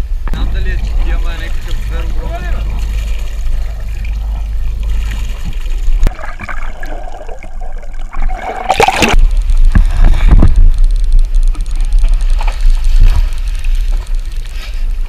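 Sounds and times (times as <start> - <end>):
boat noise: 0.0 - 15.0
wind rumble: 0.0 - 15.0
underwater gurgling water: 0.6 - 15.0.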